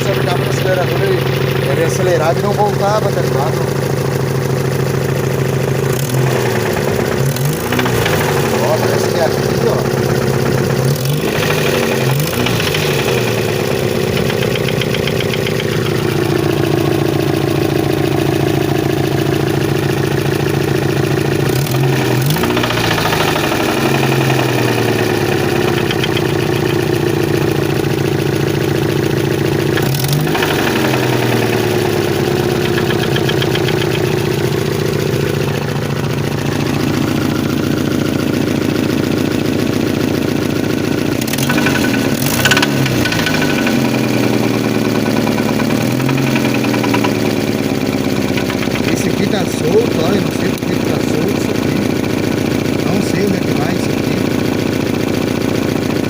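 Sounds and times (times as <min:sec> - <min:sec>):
abnormal engine noise: 0:00.0 - 0:56.0
car engine idling and revving: 0:00.0 - 0:56.0.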